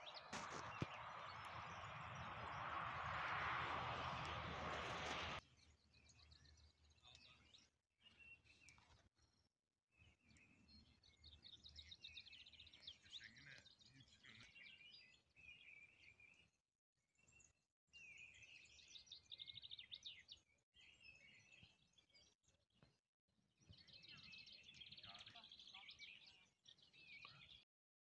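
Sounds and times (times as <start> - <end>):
faint songbirds singing: 0.0 - 27.7.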